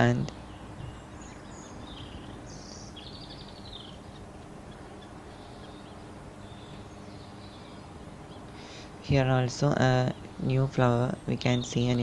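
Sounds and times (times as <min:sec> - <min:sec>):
birds chirping: 0:00.0 - 0:12.0
low background hiss: 0:00.0 - 0:12.0.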